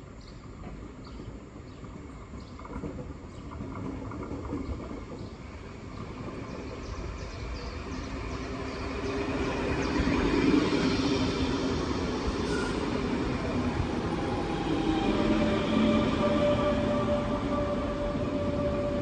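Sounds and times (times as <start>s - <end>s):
electric train rumbling on rails: 0.0s - 19.0s.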